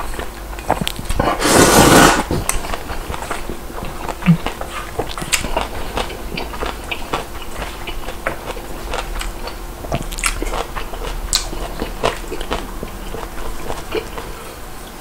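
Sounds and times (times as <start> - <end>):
person chewing noodles: 0.0 - 14.7.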